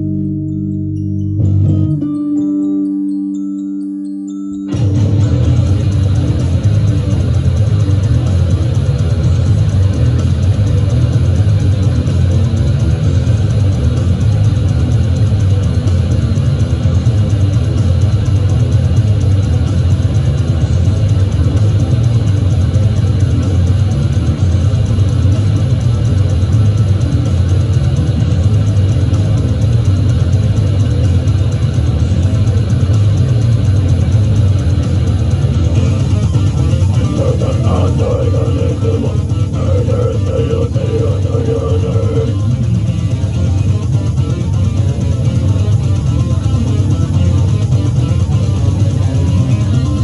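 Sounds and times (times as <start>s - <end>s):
distorted electric guitar: 0.0s - 3.6s, 4.7s - 50.0s
heavy metal band playing loud: 4.7s - 50.0s
fast even ticking: 5.0s - 49.8s.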